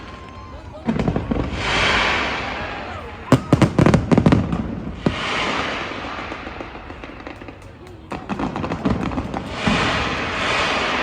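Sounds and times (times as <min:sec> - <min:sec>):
fireworks bangs: 0:00.0 - 0:11.0
fireworks crackling hiss: 0:00.8 - 0:11.0.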